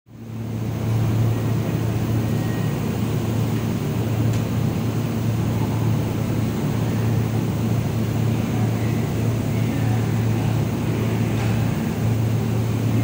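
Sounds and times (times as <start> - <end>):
low hum of stationary train: 0.1 - 13.0
station background noise: 0.1 - 13.0.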